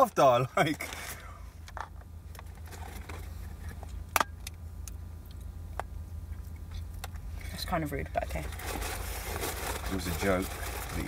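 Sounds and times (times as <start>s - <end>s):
low hum inside car: 0.0s - 11.0s.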